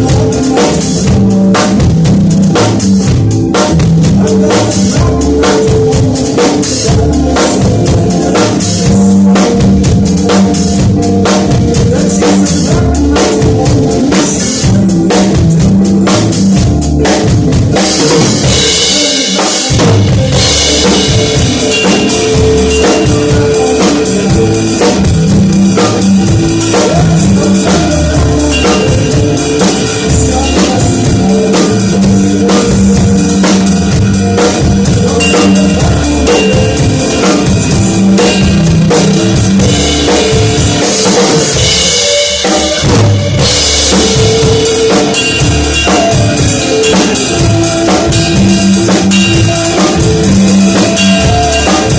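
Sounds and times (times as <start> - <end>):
bass and pitched instrument notes: 0.0 - 51.9
drum kit groove: 0.0 - 51.9.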